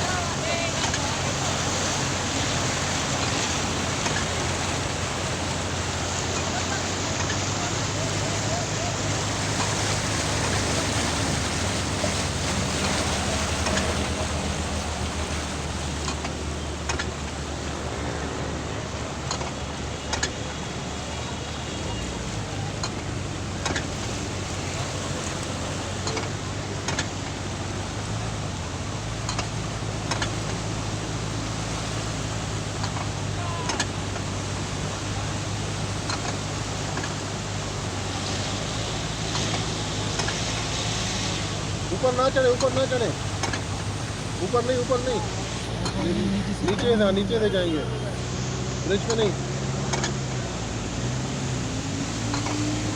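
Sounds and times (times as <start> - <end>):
low engine hum: 0.0 - 52.9
road hiss: 0.0 - 52.9
water rushing: 0.0 - 52.9.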